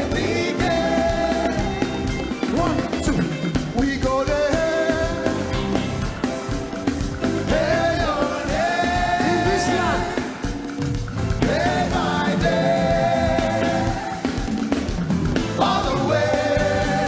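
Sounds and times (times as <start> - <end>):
band with drum beat: 0.0 - 17.0
voices singing gospel: 0.0 - 17.0.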